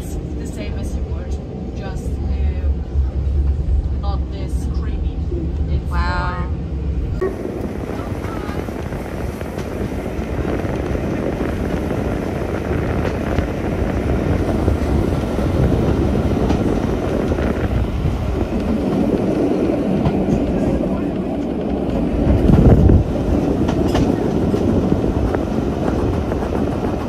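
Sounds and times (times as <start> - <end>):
moving train rumble and rush: 0.0 - 27.0.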